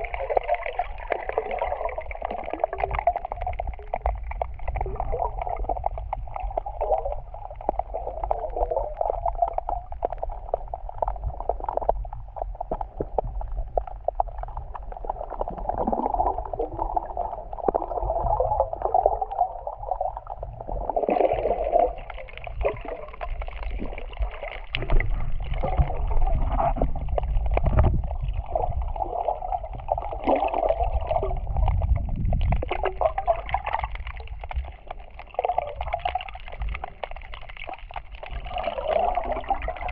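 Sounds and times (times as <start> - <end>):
underwater water sloshing: 0.0 - 39.9.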